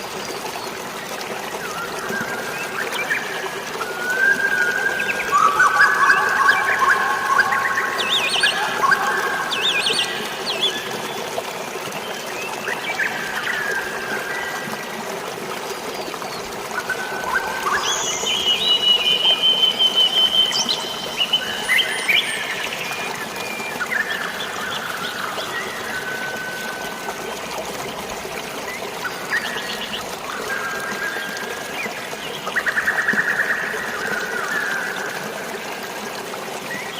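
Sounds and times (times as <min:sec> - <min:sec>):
flowing water rushing: 0:00.0 - 0:36.9.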